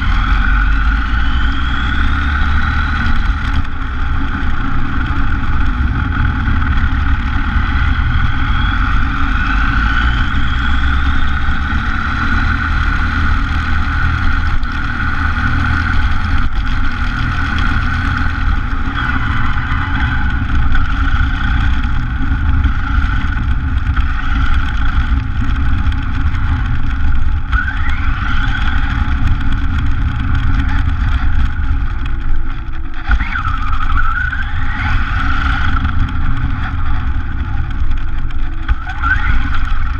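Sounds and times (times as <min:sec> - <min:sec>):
rc car tyres and drivetrain rumble: 0:00.0 - 0:39.9.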